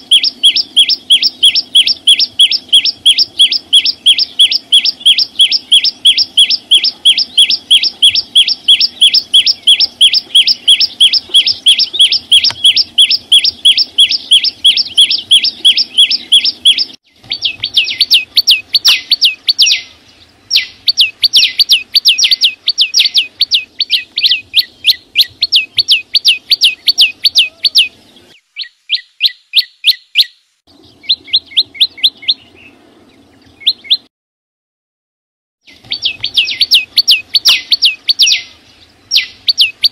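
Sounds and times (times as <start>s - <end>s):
songbird repeating sharp notes: 0.0s - 34.1s, 35.6s - 39.9s.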